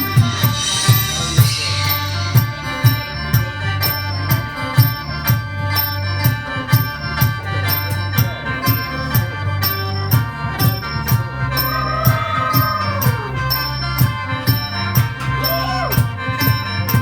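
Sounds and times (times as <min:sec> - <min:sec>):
mouth organ folk tune: 0:00.0 - 0:17.0
steady percussion beat: 0:00.0 - 0:17.0.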